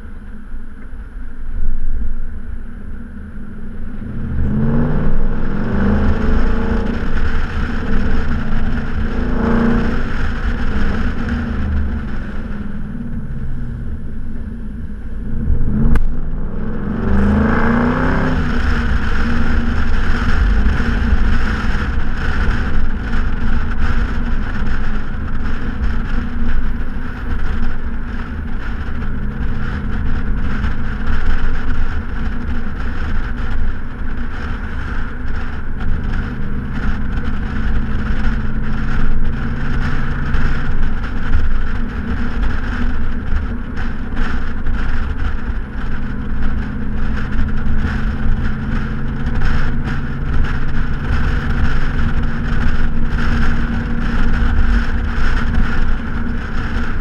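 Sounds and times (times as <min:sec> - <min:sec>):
car exhaust droning: 0:00.0 - 0:57.0
wind and road noise: 0:00.0 - 0:57.0.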